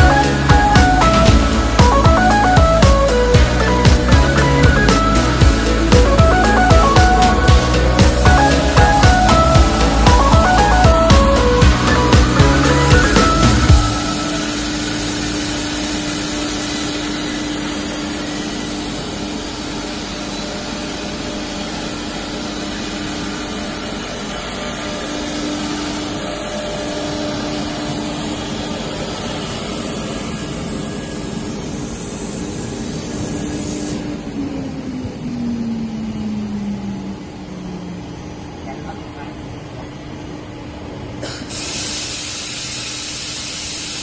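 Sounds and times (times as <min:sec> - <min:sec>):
hiss of dust extraction: 0:00.0 - 0:34.2, 0:41.2 - 0:44.0
router spindle whine: 0:00.0 - 0:36.4.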